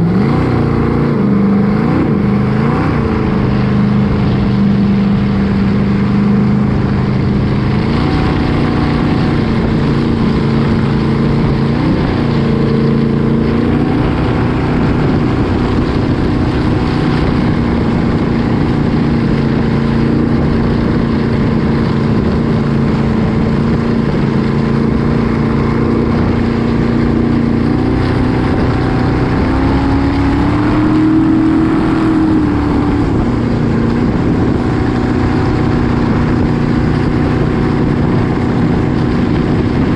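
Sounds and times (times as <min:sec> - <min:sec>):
loud engines running: 0:00.0 - 0:39.9.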